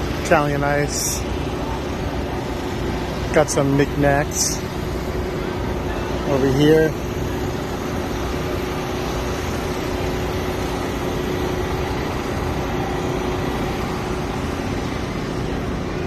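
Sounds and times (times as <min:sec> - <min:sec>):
mechanical drone with low hum: 0:00.0 - 0:16.0.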